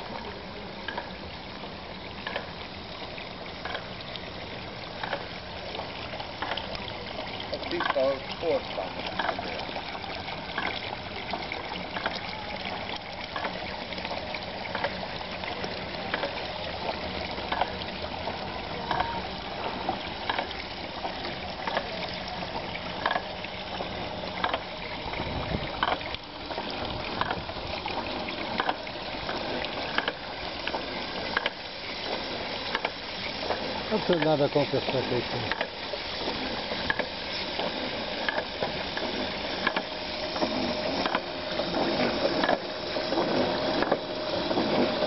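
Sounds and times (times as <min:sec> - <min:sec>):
mud trickling and splashing: 0:00.0 - 0:45.0
steady machine hum: 0:00.0 - 0:45.0.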